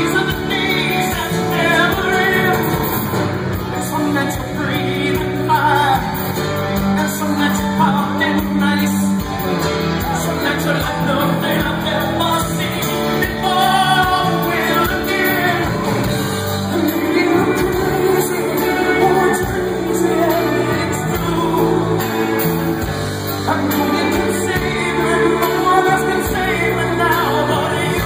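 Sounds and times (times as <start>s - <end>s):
loud stage-show music: 0.0s - 28.0s
person singing: 0.0s - 28.0s.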